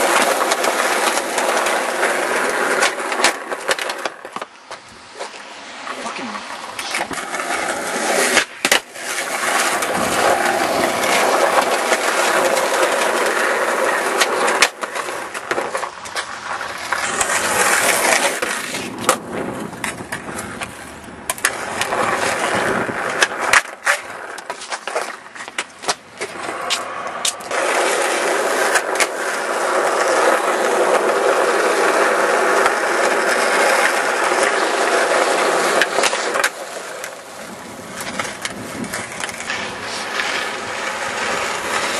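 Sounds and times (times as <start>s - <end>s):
skateboard wheels rolling: 0.0s - 41.9s.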